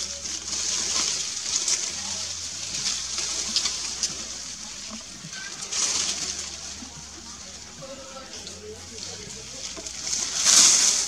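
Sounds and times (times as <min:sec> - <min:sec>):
high-pitched outdoor hiss: 0:00.0 - 0:11.0.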